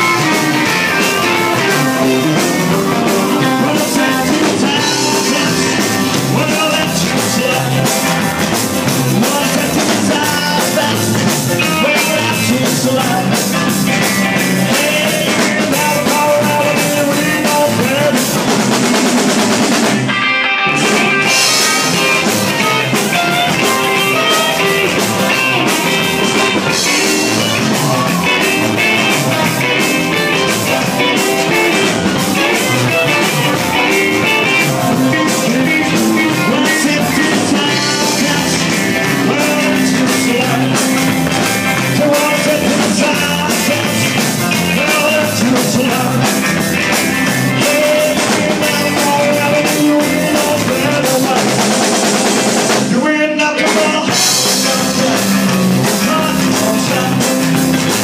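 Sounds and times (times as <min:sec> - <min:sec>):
rock band playing live: 0:00.0 - 0:58.0.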